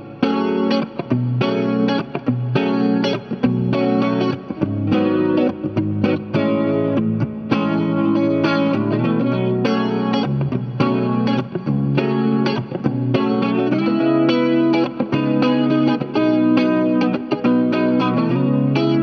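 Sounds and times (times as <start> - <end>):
electric guitar: 0.0 - 19.0.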